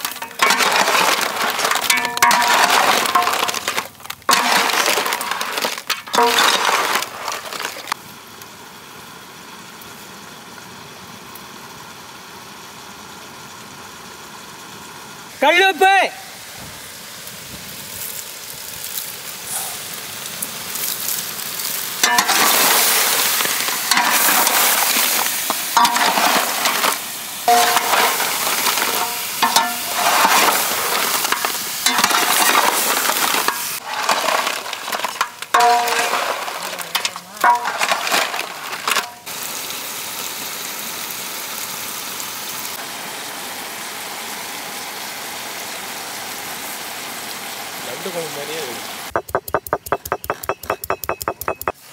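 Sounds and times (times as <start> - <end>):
crabs sizzling in a pot: 0.0 - 8.0, 16.3 - 50.3.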